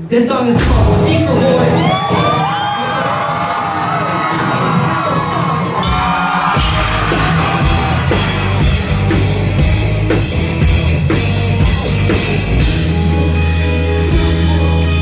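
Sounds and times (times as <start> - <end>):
drum kit: 0.5 - 3.6, 5.6 - 15.0
loud live rock band: 0.5 - 15.0.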